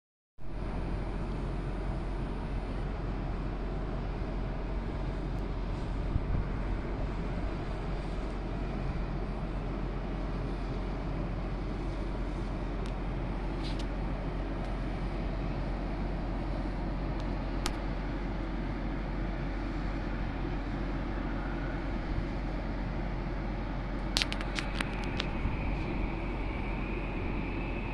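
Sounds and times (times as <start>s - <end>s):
background rumble and hiss: 0.5s - 27.9s.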